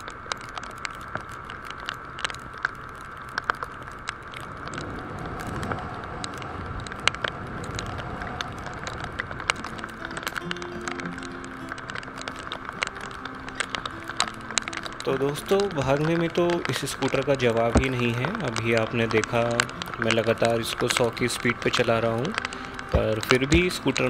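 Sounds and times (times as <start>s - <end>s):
raindrops ticking on camera: 0.0s - 24.0s
wind rush: 3.9s - 24.0s.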